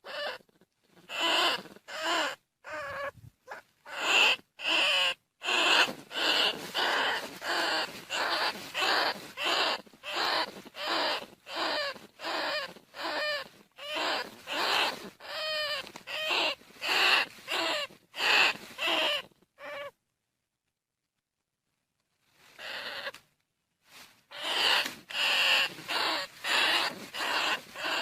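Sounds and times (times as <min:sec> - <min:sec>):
rat squealing: 0:00.0 - 0:19.9, 0:22.6 - 0:23.2, 0:24.3 - 0:28.0.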